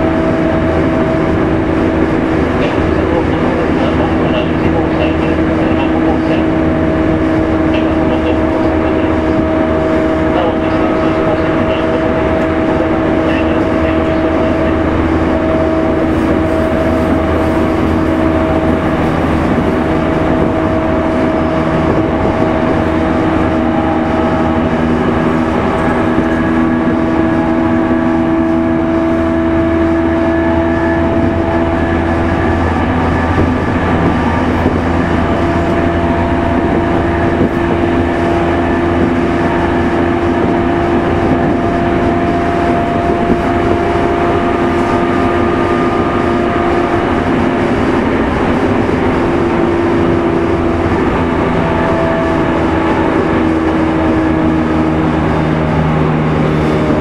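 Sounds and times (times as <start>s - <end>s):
motor and gear hum: 0.0s - 57.0s
train running rumble: 0.0s - 57.0s.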